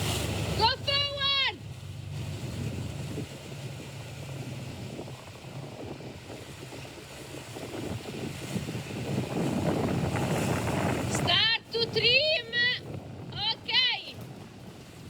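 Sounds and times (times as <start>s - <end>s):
water splashing around boat: 0.0s - 15.0s
wind rushing over microphone: 0.0s - 15.0s.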